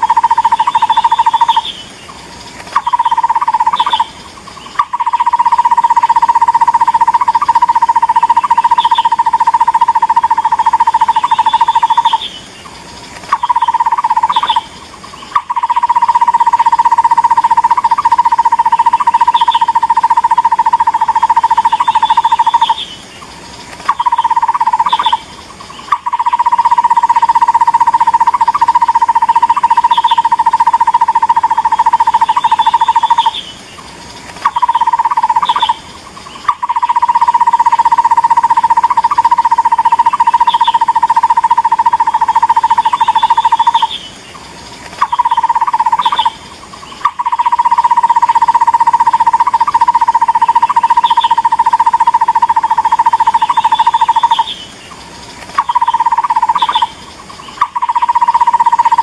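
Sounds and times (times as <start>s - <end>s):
barbet call rapid repeated notes: 0.0s - 1.8s, 2.8s - 12.3s, 13.3s - 22.9s, 23.9s - 33.5s, 34.4s - 44.0s, 45.0s - 54.6s, 55.6s - 59.0s.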